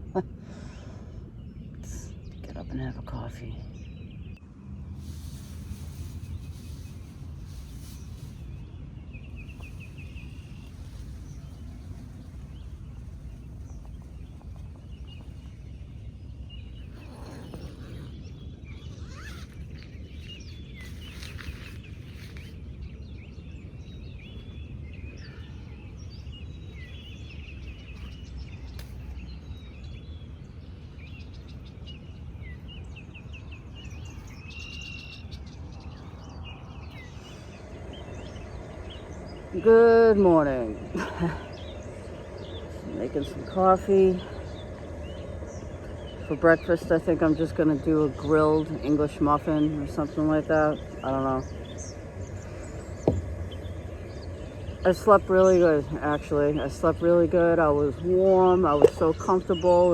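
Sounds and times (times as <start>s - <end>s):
birds singing and chirping: 0.0s - 59.9s
low background rumble: 0.0s - 59.9s.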